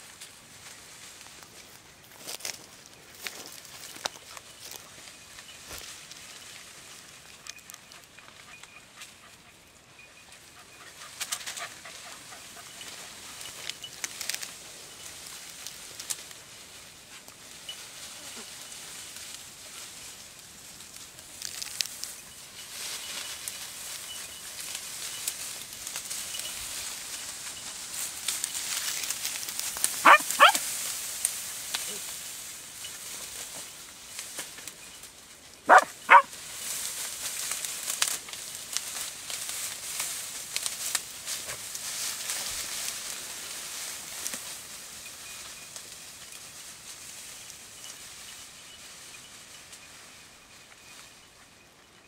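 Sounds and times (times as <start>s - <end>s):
dry grass rustling and crackling: 0.0s - 52.0s.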